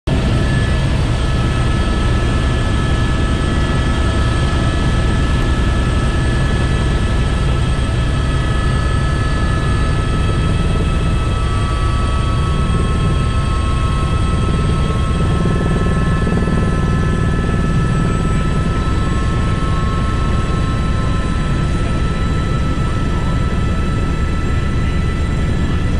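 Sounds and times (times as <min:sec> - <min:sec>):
helicopter rotor beat: 0:00.1 - 0:25.9
turbine whine: 0:00.1 - 0:25.9.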